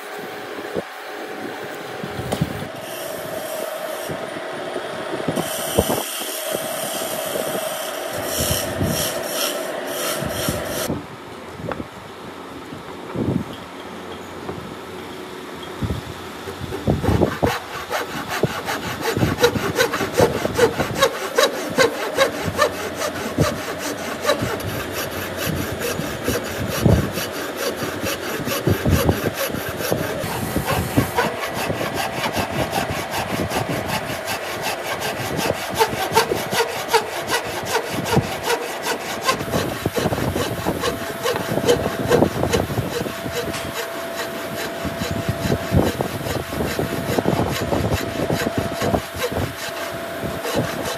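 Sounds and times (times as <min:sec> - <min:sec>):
hand saw cutting wood: 0:02.2 - 0:04.2, 0:05.3 - 0:10.9, 0:16.4 - 0:50.9.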